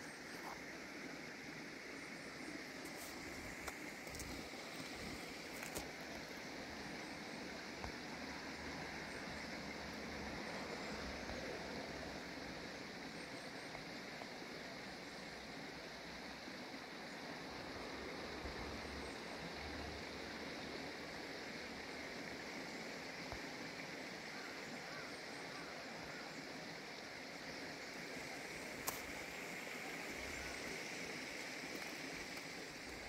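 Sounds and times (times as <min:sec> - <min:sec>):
steady outdoor background noise: 0:00.0 - 0:33.0.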